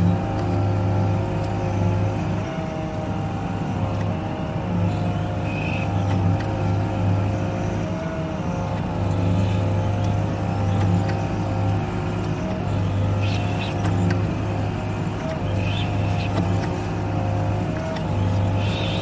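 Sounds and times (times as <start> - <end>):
diesel engine hum: 0.0 - 19.0
hydraulic whine: 0.0 - 19.0.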